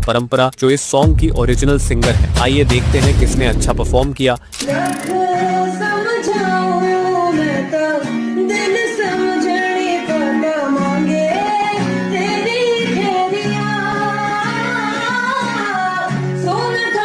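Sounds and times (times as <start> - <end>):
guitar accompaniment: 2.0 - 17.0
person singing: 2.0 - 17.0.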